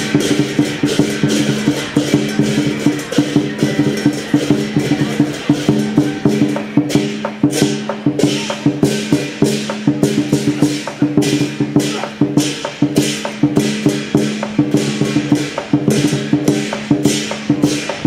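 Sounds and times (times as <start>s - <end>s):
cymbal crashes: 0.0s - 18.0s
drum strikes: 0.0s - 18.0s.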